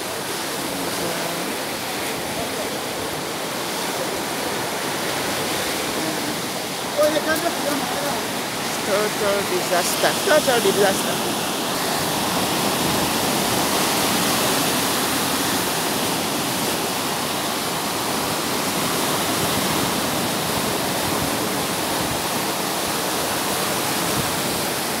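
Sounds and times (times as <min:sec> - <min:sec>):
waves washing up on sand beach: 0:00.0 - 0:25.0.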